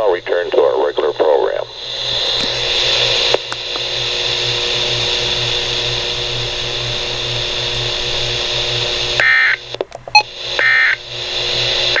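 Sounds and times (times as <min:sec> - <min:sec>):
radio receiver hiss with low hum: 0:00.0 - 0:12.0.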